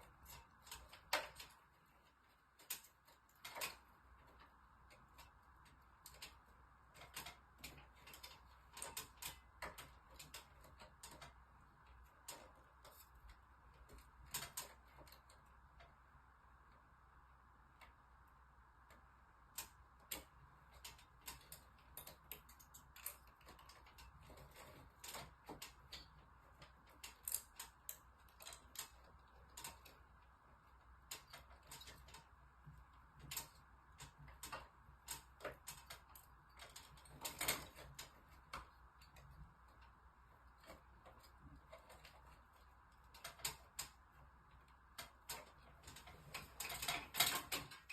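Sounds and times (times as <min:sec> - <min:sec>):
faint clicks and ticks: 0:00.0 - 0:47.9.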